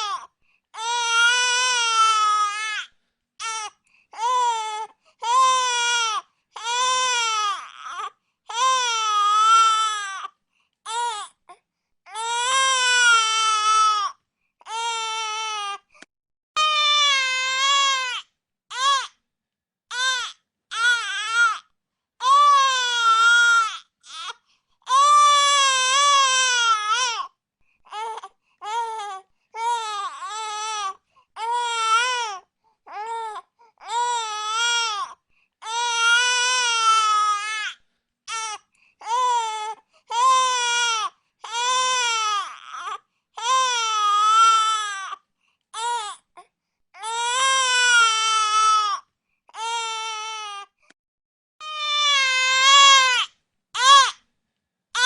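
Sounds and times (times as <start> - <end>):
baby crying: 0.0 - 15.9, 16.6 - 19.2, 19.9 - 27.3, 27.9 - 46.4, 47.0 - 50.8, 51.6 - 54.2.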